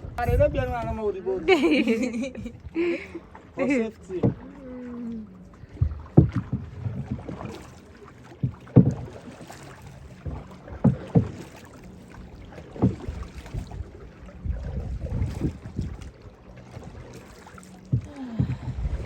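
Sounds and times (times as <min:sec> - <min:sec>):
water slapping against boat: 0:00.0 - 0:19.0.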